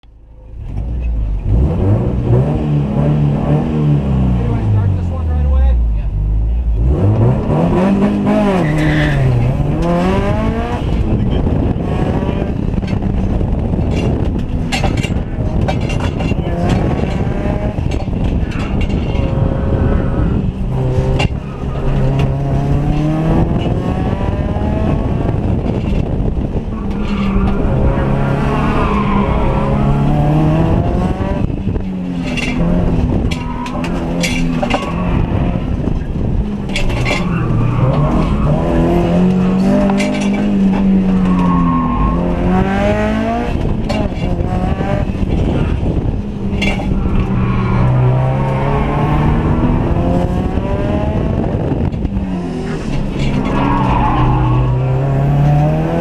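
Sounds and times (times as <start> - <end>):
car engine driven hard: 0.0 - 56.0.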